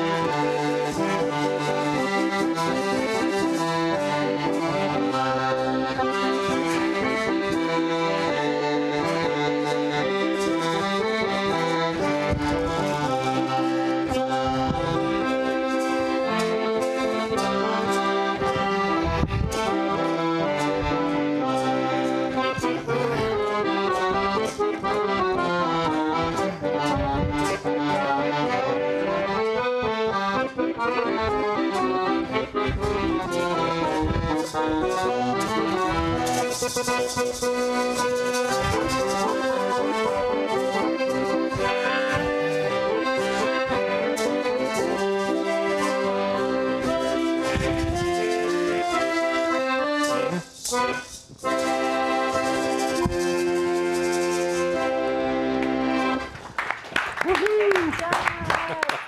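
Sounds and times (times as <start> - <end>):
accordion music: 0.0 - 59.0.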